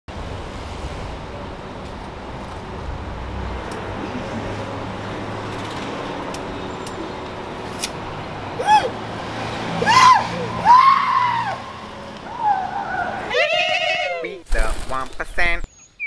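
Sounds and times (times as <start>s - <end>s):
hum of vehicles: 0.1s - 14.4s.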